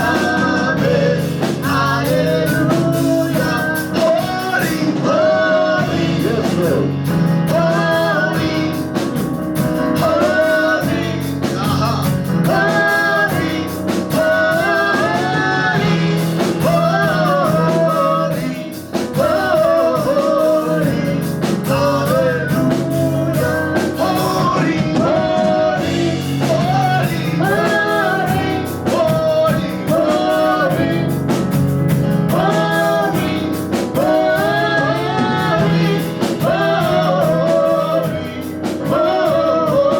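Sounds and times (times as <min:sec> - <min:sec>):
instrumental accompaniment: 0:00.0 - 0:39.9
worship song singing: 0:00.0 - 0:39.9.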